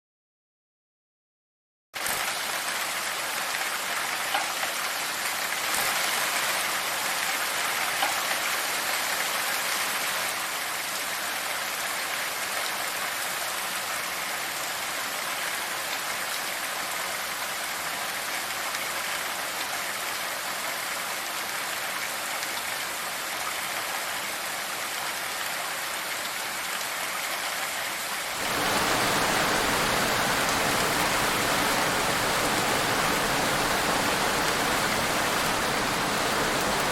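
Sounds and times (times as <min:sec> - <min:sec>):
rain falling: 0:02.0 - 0:36.9.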